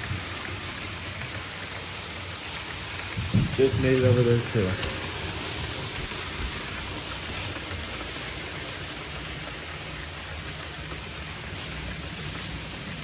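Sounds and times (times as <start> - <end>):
model trains hissing: 0.0 - 13.0.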